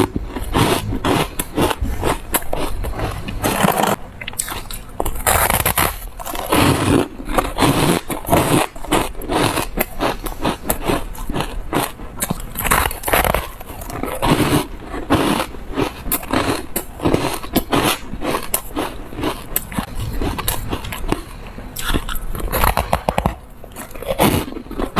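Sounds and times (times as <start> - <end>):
chewing crunchy ice: 0.0 - 24.9.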